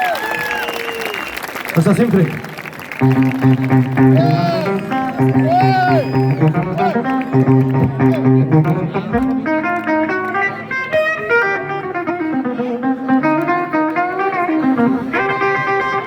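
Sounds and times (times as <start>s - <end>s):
rockabilly band playing: 2.4s - 16.0s
guitar picking a melody: 3.0s - 16.0s.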